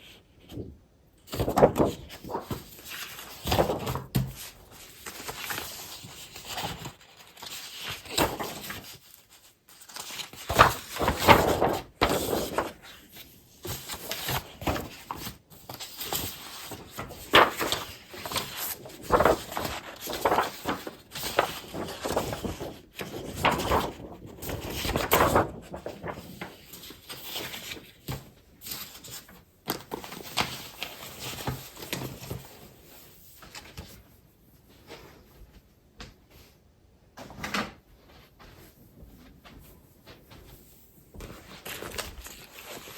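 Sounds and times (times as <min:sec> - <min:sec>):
paper rustling and crinkling: 0:00.0 - 0:35.5, 0:37.6 - 0:42.9.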